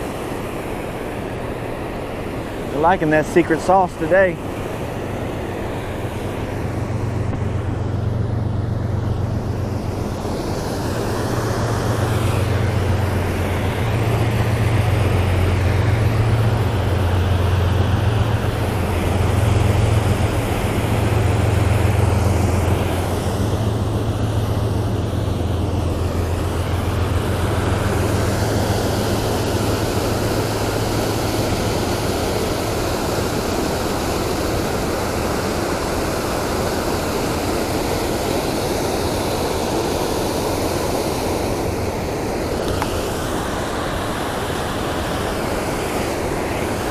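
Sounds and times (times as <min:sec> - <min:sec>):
water rushing over a weir: 0:00.0 - 0:46.9.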